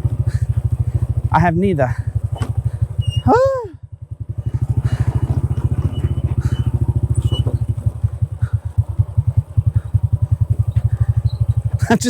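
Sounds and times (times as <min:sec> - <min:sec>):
motorbike engine chugging: 0:00.0 - 0:12.0.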